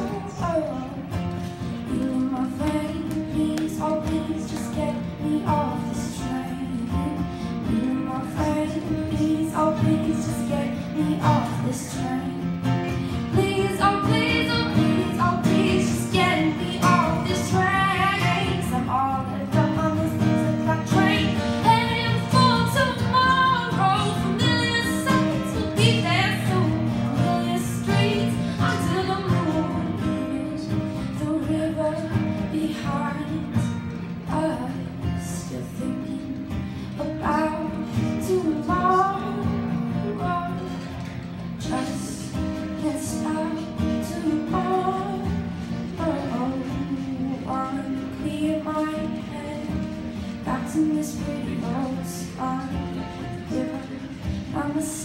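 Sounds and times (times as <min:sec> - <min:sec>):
acoustic guitar chords: 0:00.0 - 0:55.0
woman singing: 0:00.0 - 0:55.0.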